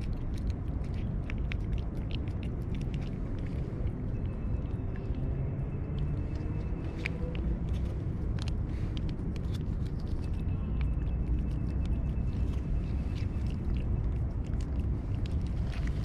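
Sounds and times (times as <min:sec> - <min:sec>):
cat licking and chewing: 0:00.0 - 0:16.0
steady low rumble: 0:00.0 - 0:16.0.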